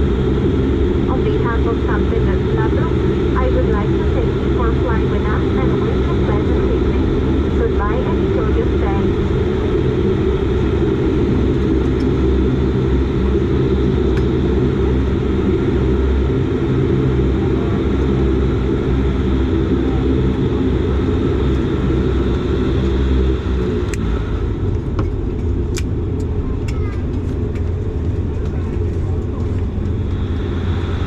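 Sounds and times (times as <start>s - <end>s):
turboprop engines droning: 0.0s - 31.0s.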